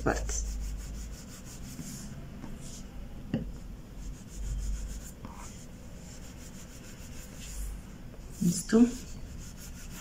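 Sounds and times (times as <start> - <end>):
cotton wad rubbing on foam: 0.1 - 2.8, 4.0 - 10.0.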